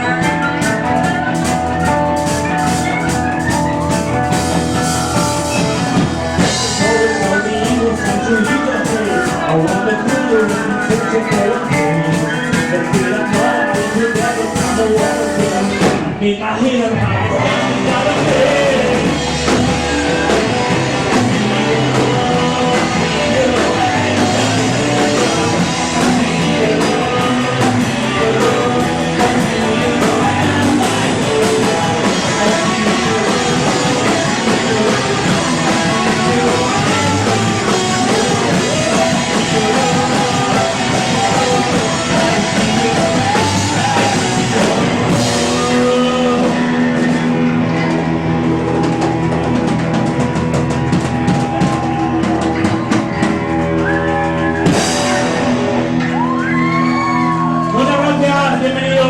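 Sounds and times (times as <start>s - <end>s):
person singing: 0.0s - 49.6s, 51.1s - 59.0s
rock band playing live: 0.0s - 59.0s.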